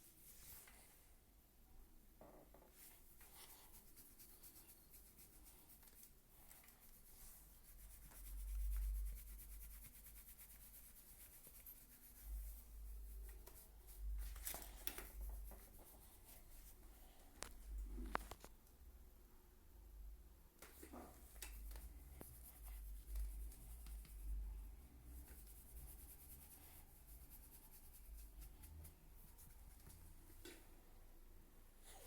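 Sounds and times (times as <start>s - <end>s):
faint rubbing and scratching: 0.0s - 1.2s, 2.7s - 18.5s, 20.6s - 30.4s.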